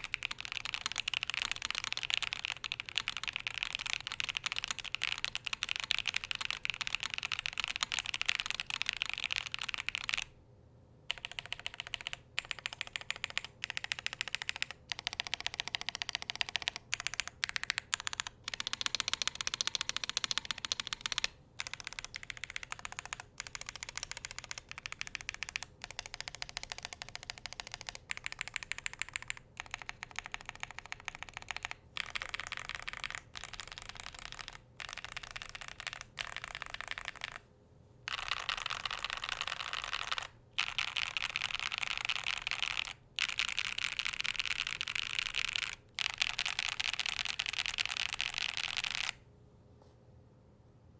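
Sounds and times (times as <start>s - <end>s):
mechanical keyboard typing: 0.0s - 10.3s, 11.1s - 37.4s, 38.1s - 49.2s.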